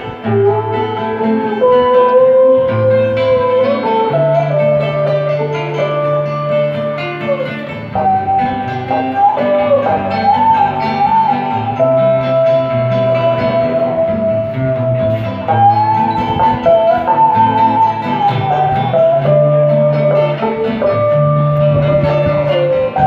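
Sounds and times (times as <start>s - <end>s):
bass line: 0.0s - 23.0s
plucked string instruments: 0.0s - 23.0s
sliding lead melody: 0.0s - 23.0s.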